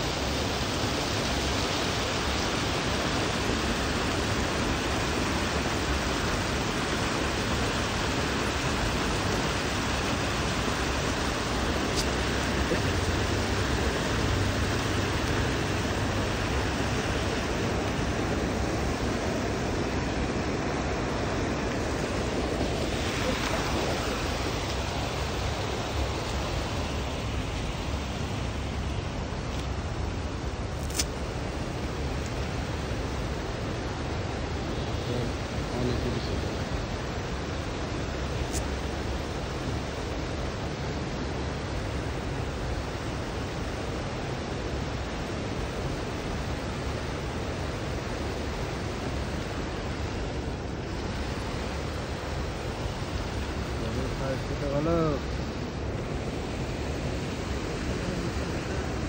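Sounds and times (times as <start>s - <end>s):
water rushing over weir: 0.0s - 59.0s.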